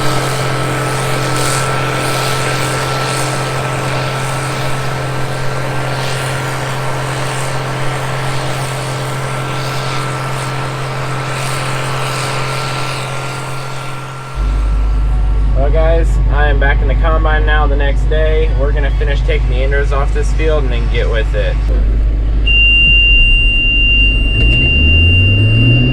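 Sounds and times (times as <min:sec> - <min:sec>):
combine harvester engine drone: 0:00.0 - 0:25.9
thin steady whine: 0:00.0 - 0:25.9.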